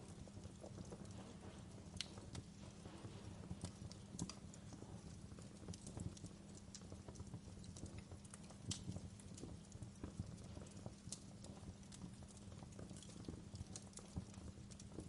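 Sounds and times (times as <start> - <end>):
low steady fire rumble: 0.0 - 15.0
wood fire crackling and popping: 0.0 - 15.0.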